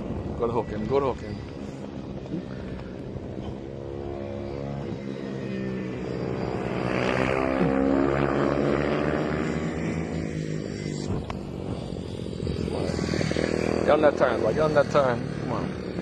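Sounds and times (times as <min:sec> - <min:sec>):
mini motorcycles racing past: 0:00.0 - 0:16.0.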